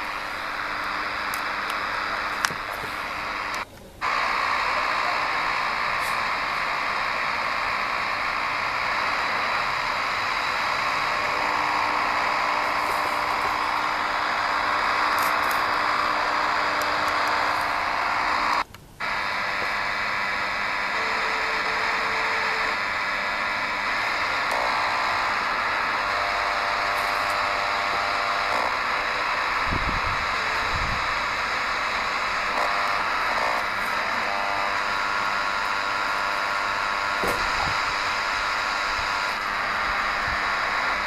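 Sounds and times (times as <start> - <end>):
radio band noise hiss: 0.0 - 41.0.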